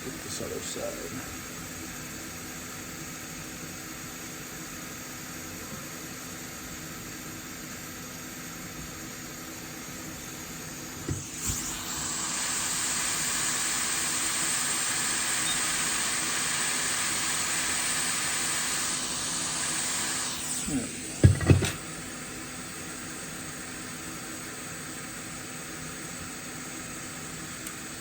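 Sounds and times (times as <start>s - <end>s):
hot air station hissing: 0.0s - 28.0s.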